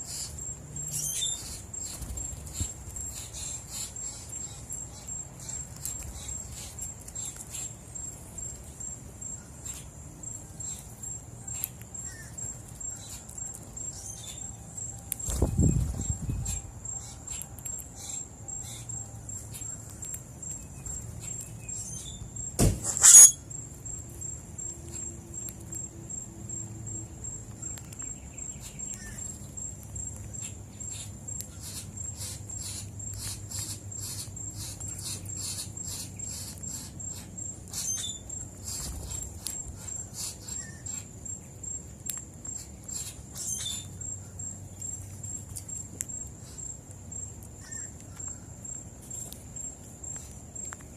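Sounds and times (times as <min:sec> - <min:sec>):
insect trilling: 0:00.0 - 0:19.8, 0:20.8 - 0:44.6.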